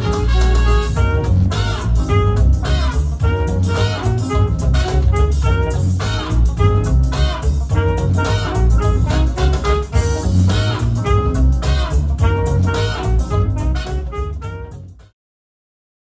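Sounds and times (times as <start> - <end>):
up-tempo jazzy horn music: 0.0 - 15.1.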